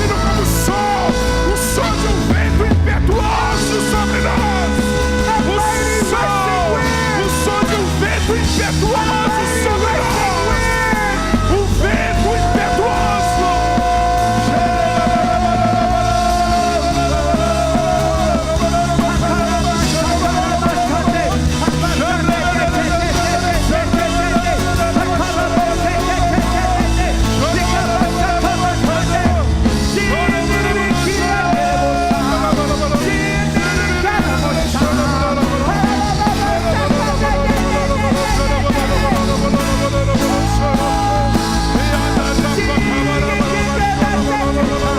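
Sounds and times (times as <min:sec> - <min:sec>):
loud band music: 0:00.0 - 0:44.9
person singing long notes: 0:00.0 - 0:44.9.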